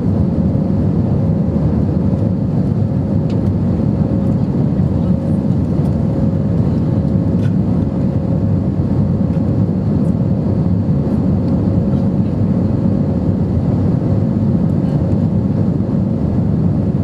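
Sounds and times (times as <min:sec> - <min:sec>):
aircraft cabin rumble: 0:00.0 - 0:17.0
faint constant hum: 0:00.0 - 0:17.0.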